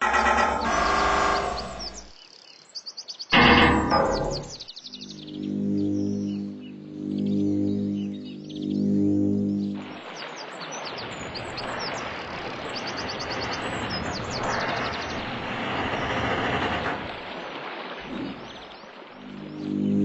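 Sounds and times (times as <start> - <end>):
steady rushing noise: 3.4 - 20.0.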